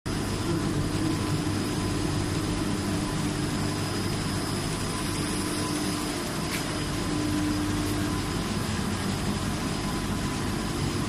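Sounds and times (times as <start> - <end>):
machine humming: 0.1 - 11.0
machine whining tones: 0.1 - 11.0.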